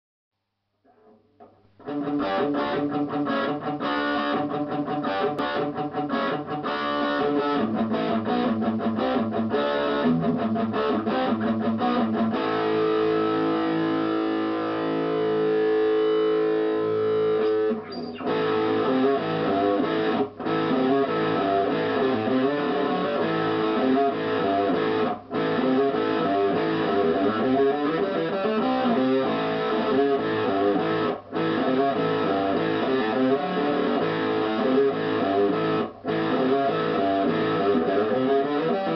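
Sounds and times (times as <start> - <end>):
electric guitar playing: 0.9 - 38.9.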